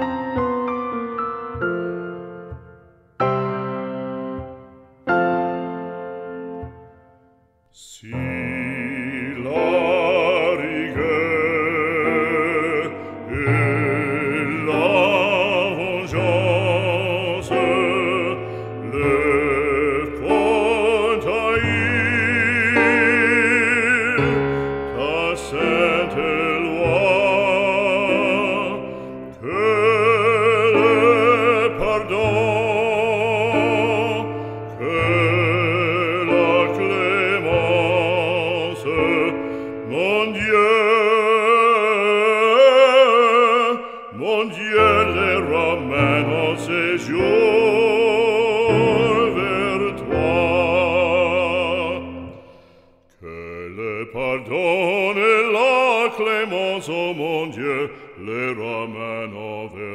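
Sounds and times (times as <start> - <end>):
operatic singing with vibrato: 7.7 - 59.9.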